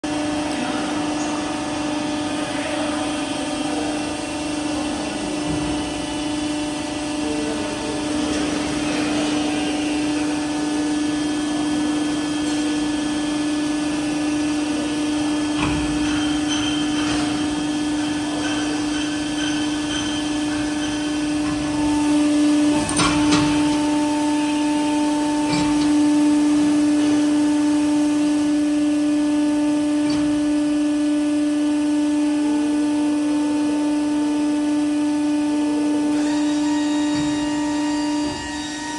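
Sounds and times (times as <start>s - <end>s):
hydraulic pump hum and whine: 0.0s - 38.9s.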